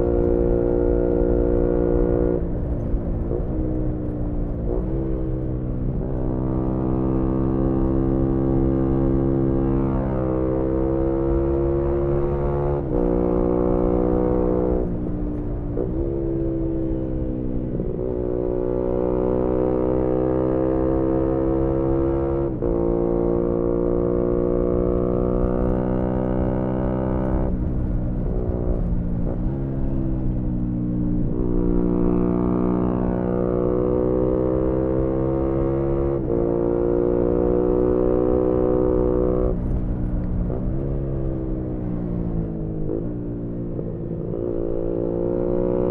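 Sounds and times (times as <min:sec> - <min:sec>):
motorcycle engine shifting gears: 0:00.0 - 0:45.9.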